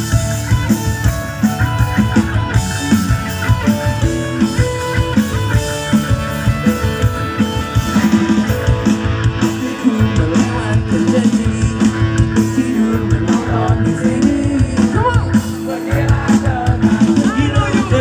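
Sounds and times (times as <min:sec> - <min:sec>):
drum kit beat: 0:00.0 - 0:18.0
electric guitars: 0:00.0 - 0:18.0.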